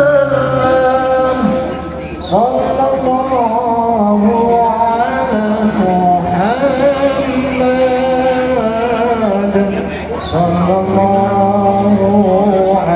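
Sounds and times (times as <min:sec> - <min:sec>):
person singing devotional song: 0:00.0 - 0:12.9.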